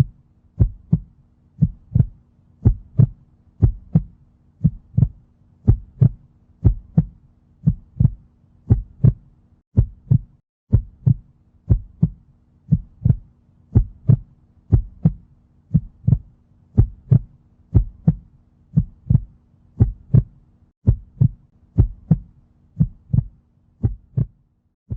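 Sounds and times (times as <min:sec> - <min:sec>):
heartbeat thumps: 0:00.0 - 0:24.9.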